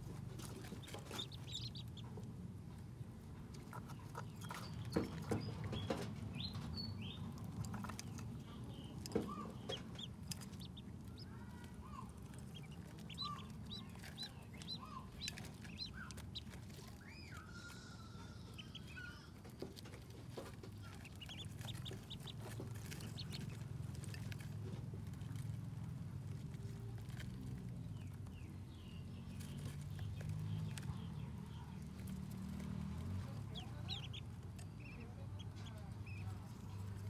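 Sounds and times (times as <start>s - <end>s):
bills pecking at feeding dish: 0.0s - 37.0s
ducklings peeping: 0.0s - 37.0s.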